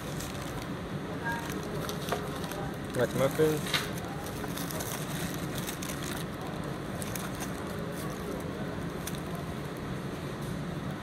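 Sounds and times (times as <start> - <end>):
paper wrapper crinkling: 0.0 - 9.8
ventilation hum: 0.0 - 11.0.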